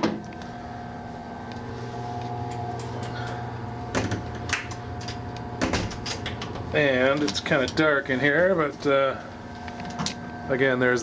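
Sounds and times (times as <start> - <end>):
train car mechanical hum: 0.0 - 11.0.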